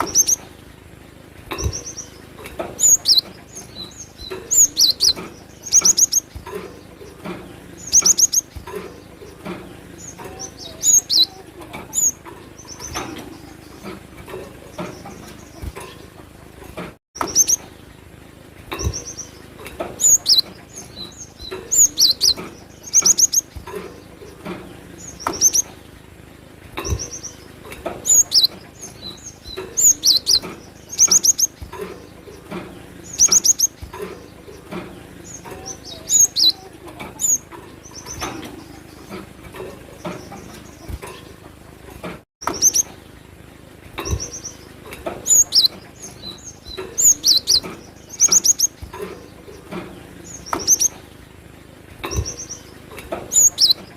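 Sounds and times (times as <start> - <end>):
bird chirping high-pitched: 0.0 - 0.5, 1.5 - 16.1, 17.2 - 17.7, 18.7 - 25.7, 26.8 - 39.3, 42.4 - 43.0, 44.0 - 51.0, 52.0 - 53.9.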